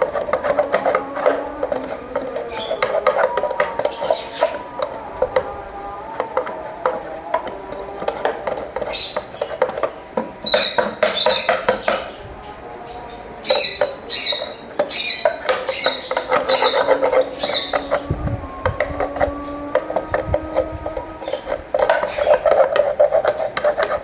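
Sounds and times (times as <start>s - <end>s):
birds chirping: 0.0s - 24.0s
clicks and scraping of nest boxes: 0.0s - 24.0s.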